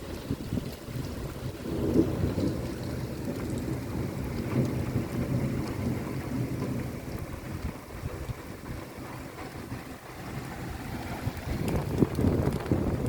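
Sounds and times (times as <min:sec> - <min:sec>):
rain pattering on window: 0:00.0 - 0:13.0
thunder rumbling: 0:00.0 - 0:13.0.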